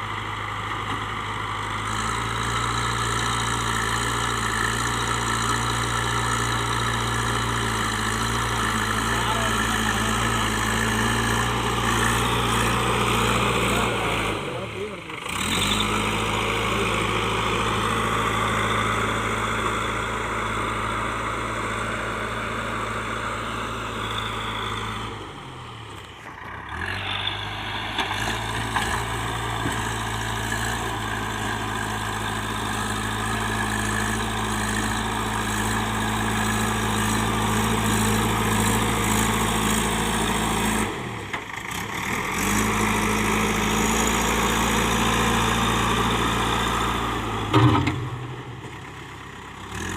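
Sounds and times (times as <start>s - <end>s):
diesel engine running steadily: 0.0s - 49.9s.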